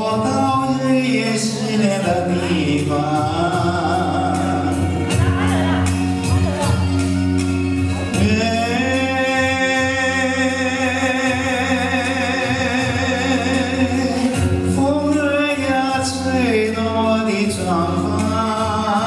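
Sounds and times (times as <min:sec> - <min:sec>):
musical accompaniment: 0:00.0 - 0:19.0
person singing with vibrato: 0:00.0 - 0:19.0.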